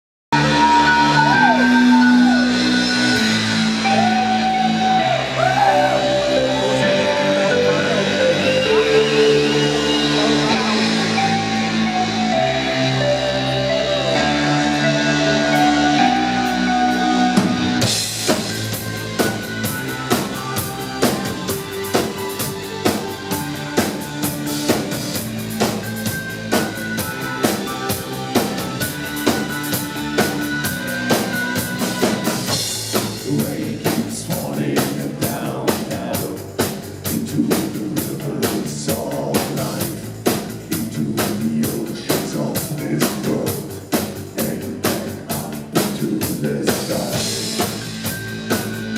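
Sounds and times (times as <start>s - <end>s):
drum kit beat: 0.3s - 48.9s
synthesizer chords: 0.3s - 48.9s.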